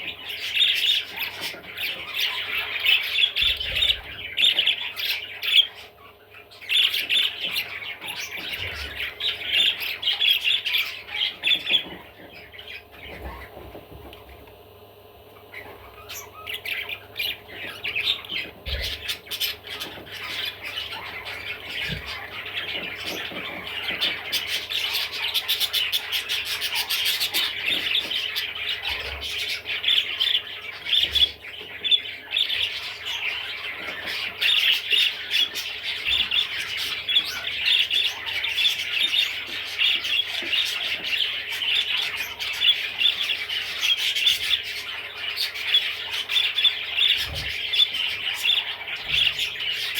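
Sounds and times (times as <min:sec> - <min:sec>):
budgerigar chattering and warbling: 0:00.0 - 0:14.3, 0:15.3 - 0:49.9.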